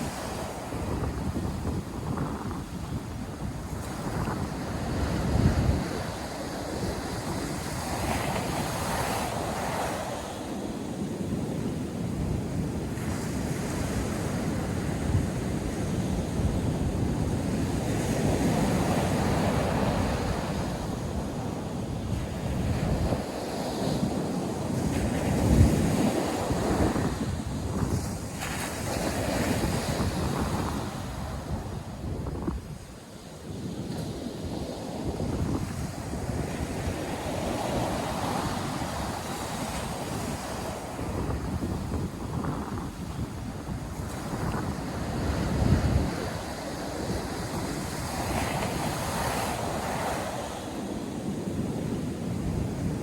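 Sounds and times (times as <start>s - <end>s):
waves breaking on a beach: 0.0s - 53.0s
wind buffeting the microphone: 0.0s - 53.0s.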